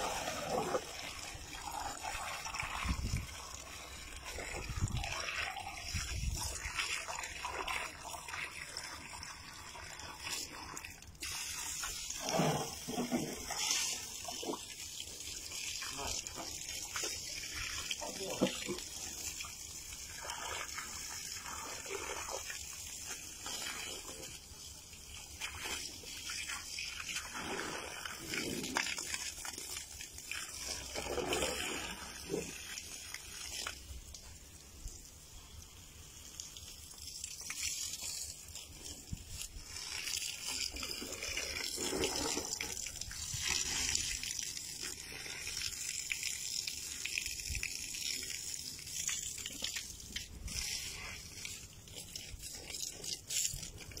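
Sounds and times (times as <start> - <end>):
hose water spraying on concrete: 0.0 - 54.0.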